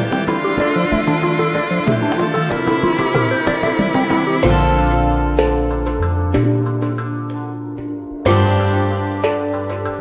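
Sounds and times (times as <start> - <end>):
plucked notes over low bass: 0.0 - 10.0.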